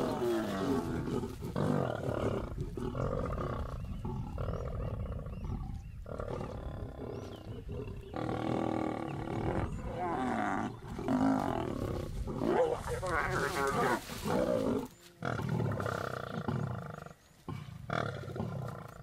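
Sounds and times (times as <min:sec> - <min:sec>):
lions growling: 0:00.0 - 0:19.0.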